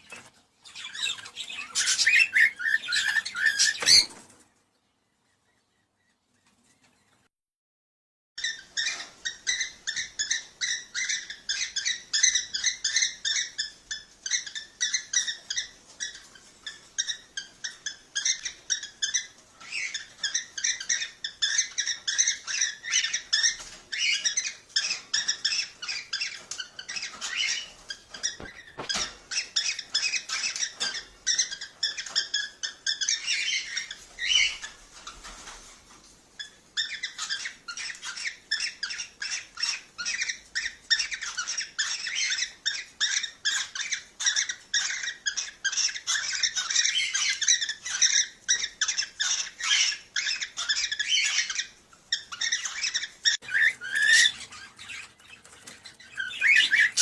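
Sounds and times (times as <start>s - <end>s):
cockatiels chirping: 0.0s - 4.3s, 8.4s - 35.6s, 36.4s - 57.0s.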